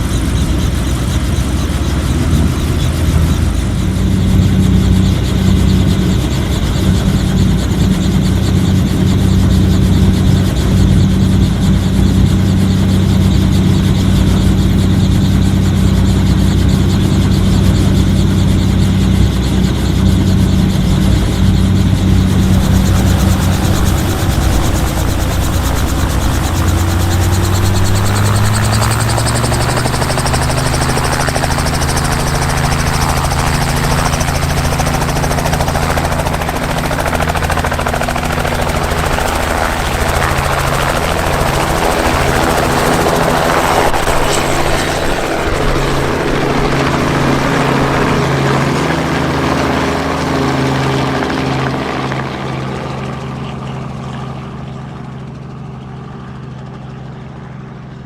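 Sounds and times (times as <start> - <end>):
helicopter engine and rotors droning: 0.0 - 58.0.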